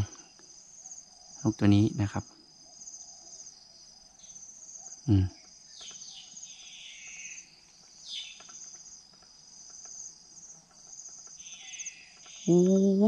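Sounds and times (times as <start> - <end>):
faint chirps: 0.0 - 13.0
insect chorus shrilling: 0.0 - 13.0.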